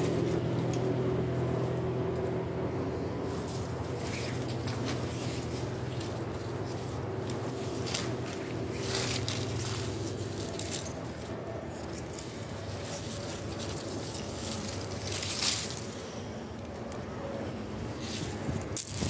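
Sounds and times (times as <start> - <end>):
plant leaves rustling: 3.2 - 19.0.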